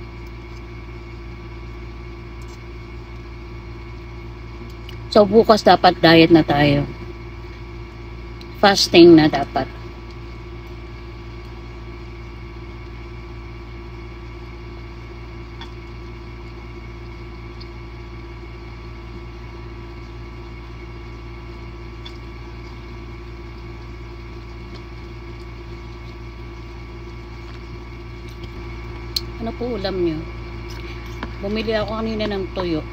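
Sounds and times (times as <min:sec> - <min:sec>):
low mechanical hum: 0:00.0 - 0:32.9.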